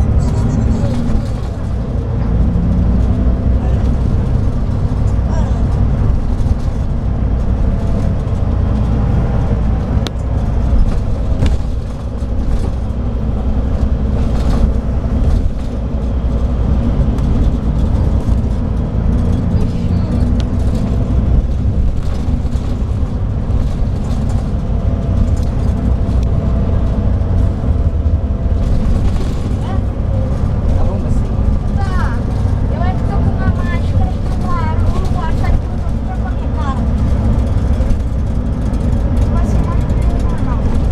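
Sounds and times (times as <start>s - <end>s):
coach diesel engine drone: 0.0s - 40.9s.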